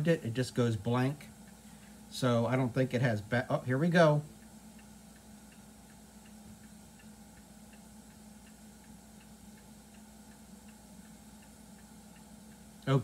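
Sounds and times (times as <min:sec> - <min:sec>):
alternating high and low ticking: 0:00.0 - 0:13.0
low steady hum: 0:00.0 - 0:13.0.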